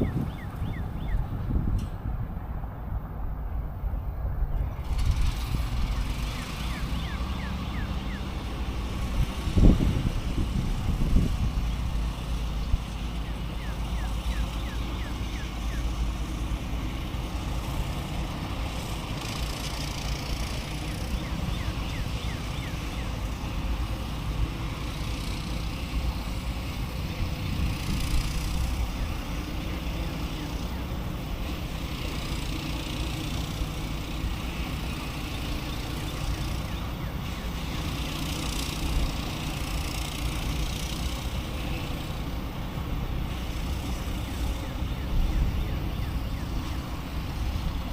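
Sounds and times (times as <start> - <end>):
low outdoor rumble: 0.0 - 47.9.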